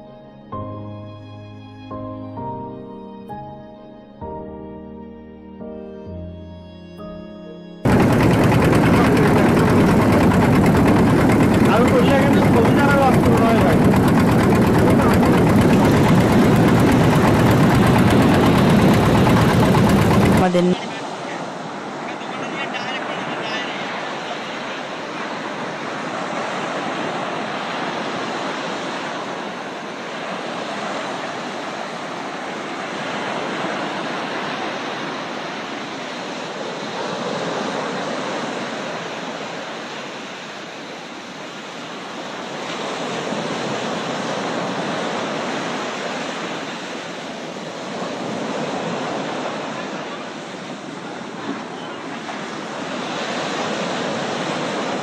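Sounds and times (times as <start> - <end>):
rushing water roar: 7.8 - 55.0.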